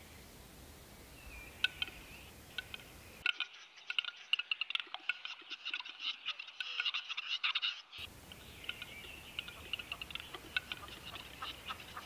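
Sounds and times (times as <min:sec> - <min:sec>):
bird clicking and grinding calls: 0:01.6 - 0:12.0.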